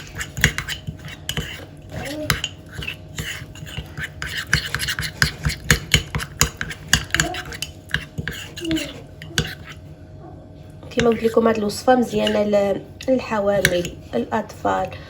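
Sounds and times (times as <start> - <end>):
spoon scraping a bowl: 0.0 - 9.9, 10.8 - 14.9.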